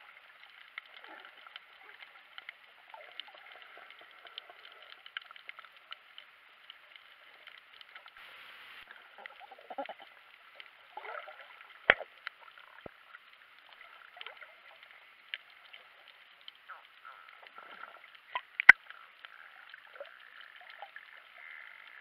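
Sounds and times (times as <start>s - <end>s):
underwater crackle of small clicks: 0.0s - 8.2s, 8.8s - 22.0s
water gurgling: 0.0s - 22.0s.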